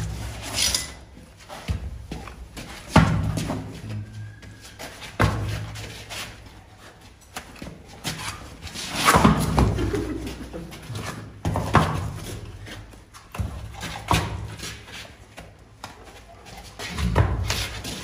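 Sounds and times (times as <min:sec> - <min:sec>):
hooves knocking on concrete: 0:00.0 - 0:18.0.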